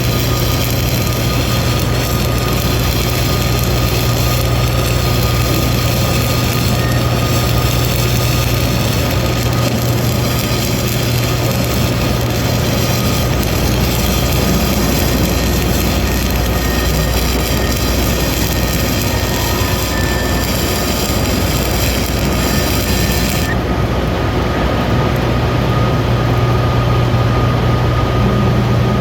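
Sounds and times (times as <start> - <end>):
welding arc noise: 0.0 - 25.3
strong low hum: 0.0 - 26.4.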